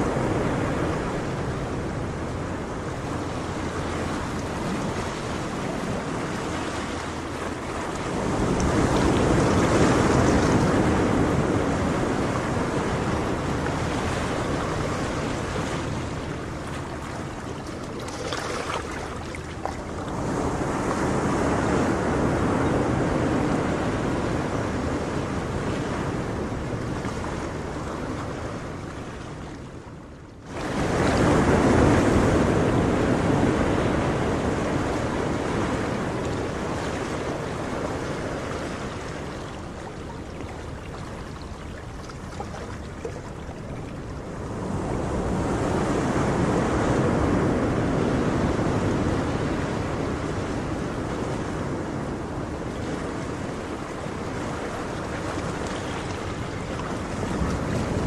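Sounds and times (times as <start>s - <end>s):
waves breaking and washing in: 0.0s - 58.0s.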